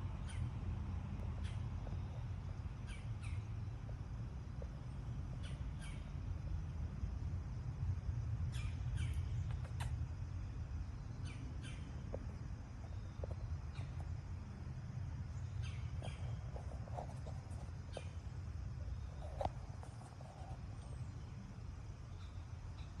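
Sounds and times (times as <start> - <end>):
steady low rumble: 0.0 - 22.8.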